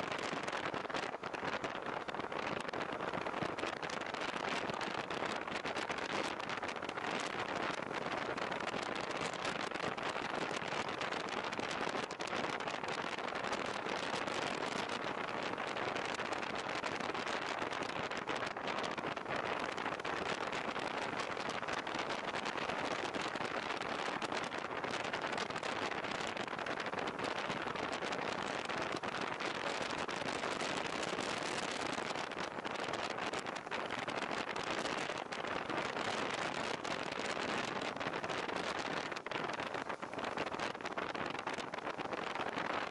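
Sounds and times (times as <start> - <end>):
wind and road noise: 0.0 - 42.9
dense crackling: 0.1 - 42.9.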